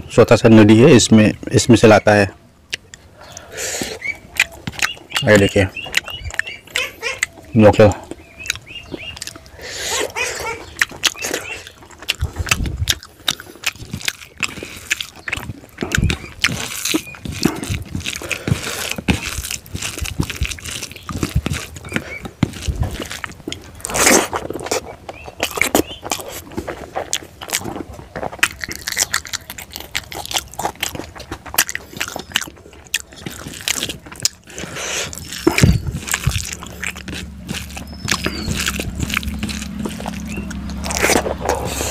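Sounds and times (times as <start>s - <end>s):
lip smacking: 2.6s - 41.9s
person chewing: 2.6s - 41.9s.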